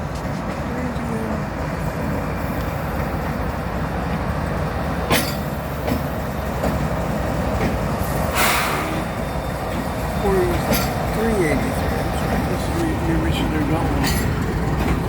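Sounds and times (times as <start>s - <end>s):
diesel locomotive engine rumble: 0.0s - 15.0s
wheels clicking on rails: 0.0s - 15.0s.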